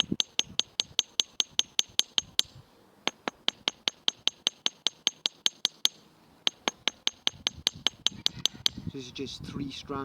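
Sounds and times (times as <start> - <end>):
hammer tapping on small anvil: 0.0 - 2.5, 3.1 - 8.8.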